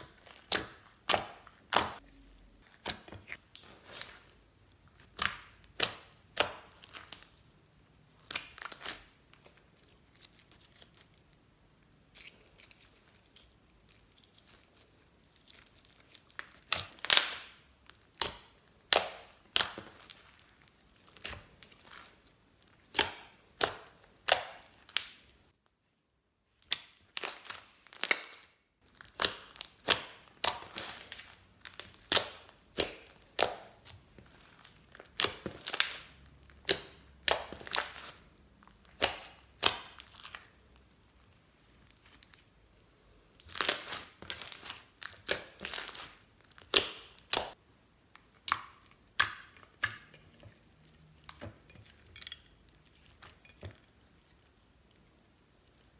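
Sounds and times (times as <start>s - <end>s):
hands kneading slime: 0.0s - 25.6s, 26.6s - 55.9s.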